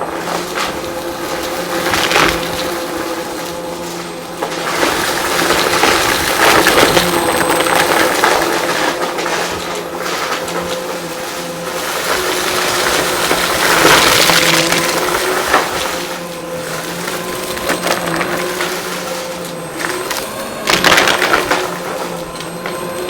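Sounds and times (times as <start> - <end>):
debris crackling in vacuum: 0.0 - 23.0
vacuum cleaner running: 0.0 - 23.0.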